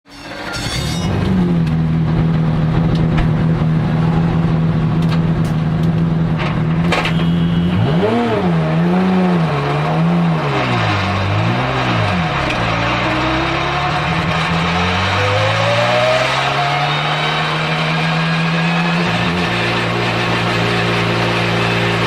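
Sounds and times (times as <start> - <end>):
car engine running: 1.0 - 22.0.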